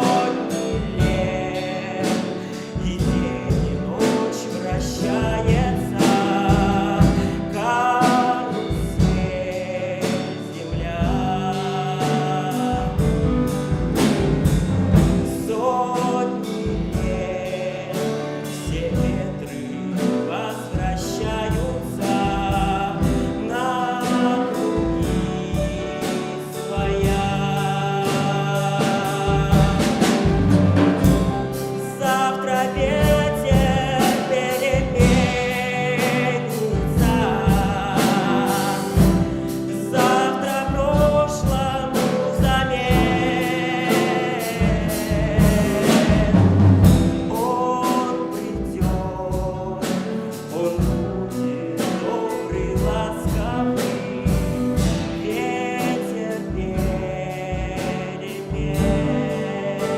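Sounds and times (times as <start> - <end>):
drum beat: 0.0 - 59.9
guitar: 0.0 - 59.9
person singing with vibrato: 0.0 - 59.9
piano: 0.0 - 59.9.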